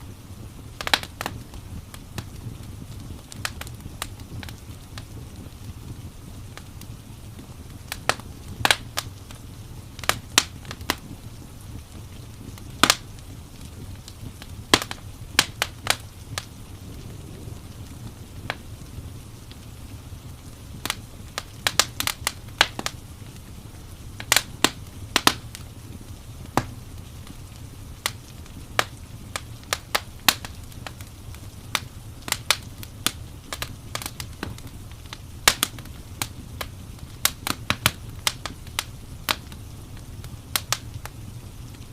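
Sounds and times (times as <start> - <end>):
rain rumble and hiss: 0.0 - 41.9
wood fire crackling: 0.0 - 41.9.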